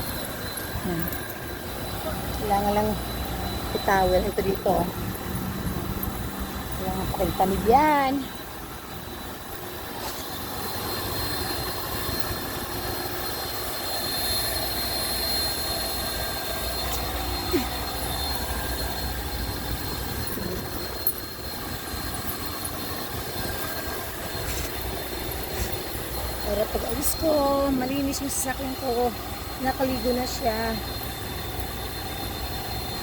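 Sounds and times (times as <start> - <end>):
machine drone with high whine: 0.0 - 33.0.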